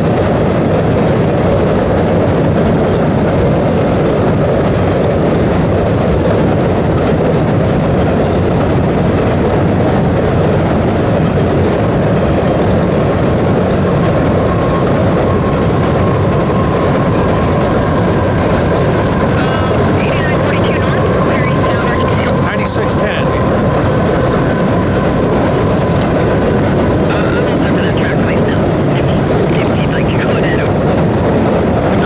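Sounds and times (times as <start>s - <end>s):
freight train wheels on rail: 0.0s - 32.0s.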